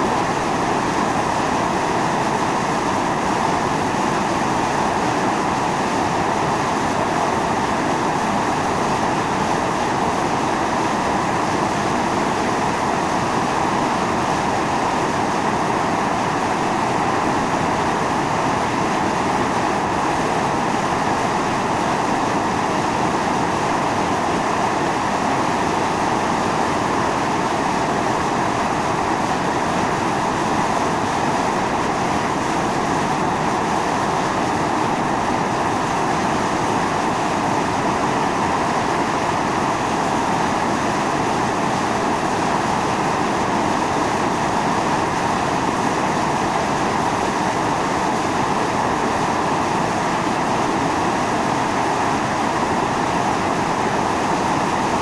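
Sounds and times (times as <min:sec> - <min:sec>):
fumarole hissing steam: 0:00.0 - 0:55.0.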